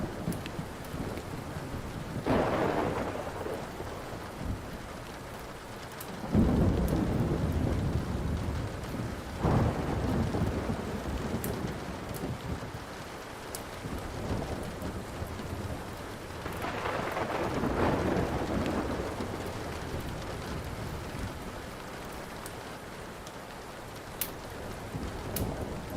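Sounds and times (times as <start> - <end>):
thunder rumbling: 0.0 - 5.3, 6.2 - 13.0, 13.8 - 22.1, 24.4 - 25.9
steady rain: 0.0 - 25.9
wood fire crackling: 0.0 - 25.9.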